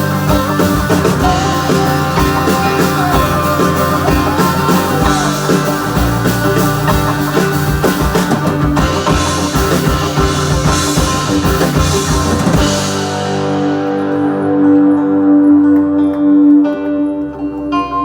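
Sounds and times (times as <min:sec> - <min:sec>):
drum kit: 0:00.0 - 0:14.9
held guitar notes ringing: 0:00.0 - 0:18.0
rock band playing: 0:00.0 - 0:18.0.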